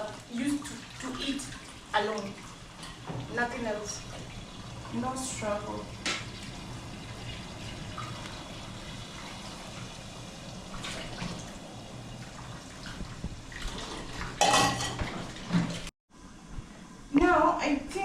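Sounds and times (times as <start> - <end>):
dishes being washed: 0.0 - 15.9
tap water running into sink: 0.0 - 15.9.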